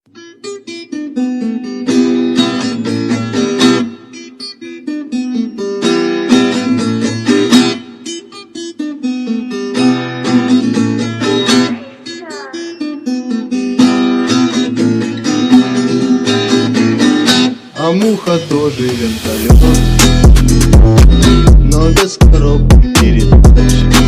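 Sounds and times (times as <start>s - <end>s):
acoustic guitar picked notes: 0.1s - 24.0s
acoustic guitar strummed chords: 0.1s - 24.0s.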